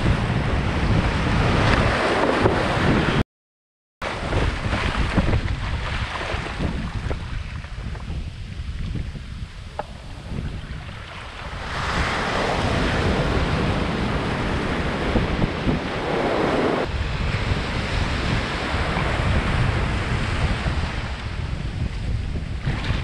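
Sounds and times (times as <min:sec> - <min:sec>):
surf washing around boat: 0:00.0 - 0:03.2, 0:04.0 - 0:08.8, 0:09.6 - 0:23.0
wind buffeting microphone: 0:00.0 - 0:03.2, 0:04.0 - 0:23.0.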